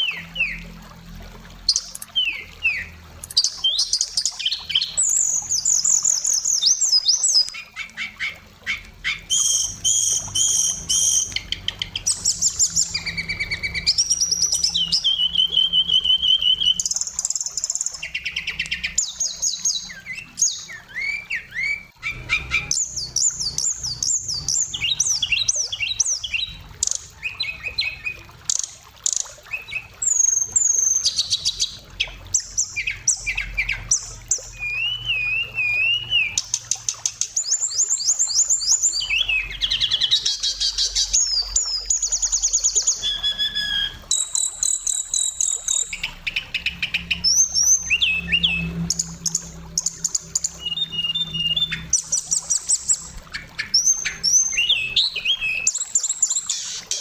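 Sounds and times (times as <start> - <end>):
bird singing trills and whistles: 0.0 - 0.8, 1.6 - 57.0.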